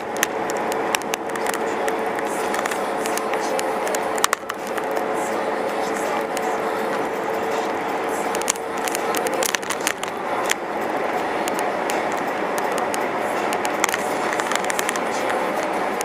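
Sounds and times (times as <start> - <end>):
road and tyre noise: 0.0 - 16.0
sharp clicks and crackles: 0.0 - 16.0.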